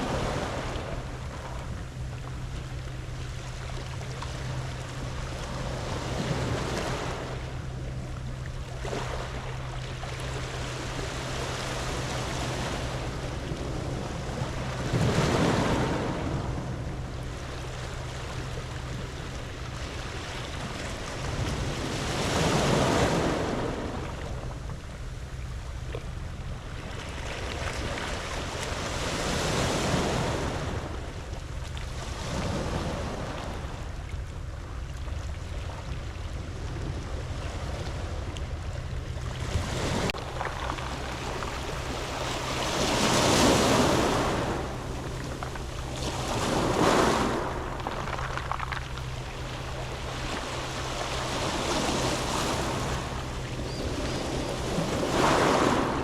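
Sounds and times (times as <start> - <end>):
waves on a pebble beach: 0.0 - 1.8, 3.6 - 7.8, 8.8 - 24.4, 26.8 - 31.2, 31.8 - 34.0, 39.4 - 56.0.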